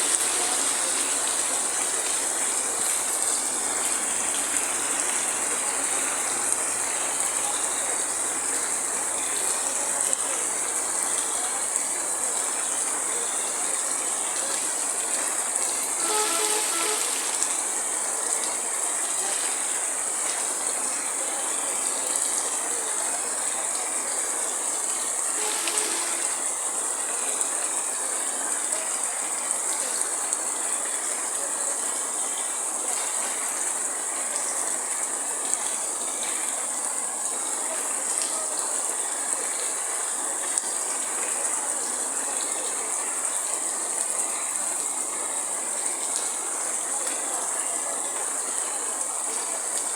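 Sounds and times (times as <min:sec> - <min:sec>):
heavy rain hissing: 0:00.0 - 0:49.9.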